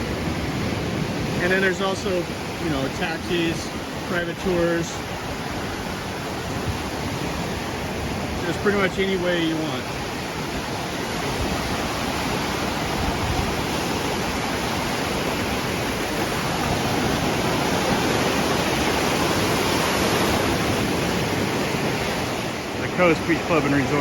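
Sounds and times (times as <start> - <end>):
surf washing up sand beach: 0.0 - 24.0.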